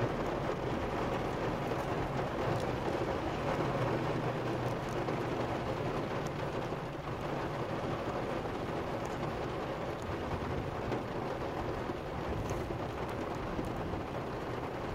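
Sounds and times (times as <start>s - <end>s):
heavy rain on car roof: 0.0s - 14.9s.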